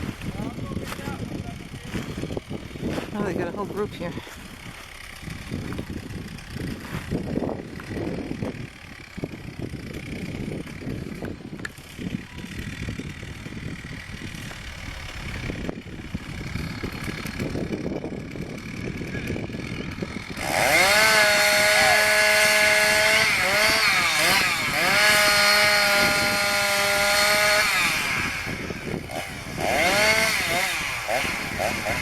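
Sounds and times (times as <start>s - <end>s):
chainsaw revving: 0.0s - 32.0s.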